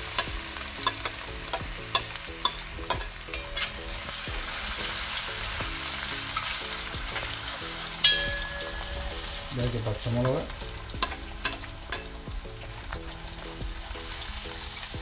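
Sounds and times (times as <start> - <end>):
garlic sizzling in hot oil: 0.0 - 15.0
steel ladle scraping a pan: 0.0 - 15.0.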